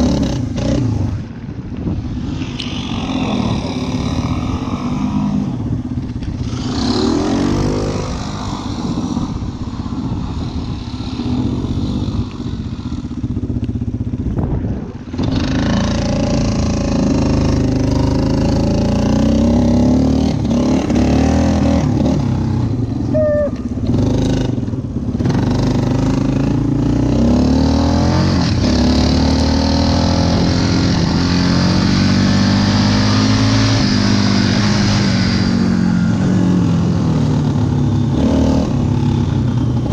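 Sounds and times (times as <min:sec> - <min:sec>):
quad bike engine running: 0:02.0 - 0:39.9.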